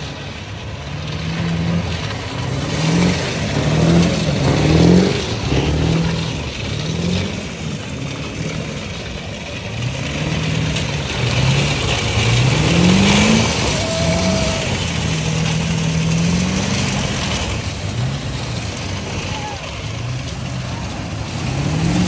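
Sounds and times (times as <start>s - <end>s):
bare rims spinning on pavement: 0.0s - 22.0s
truck engine revving: 0.0s - 22.0s.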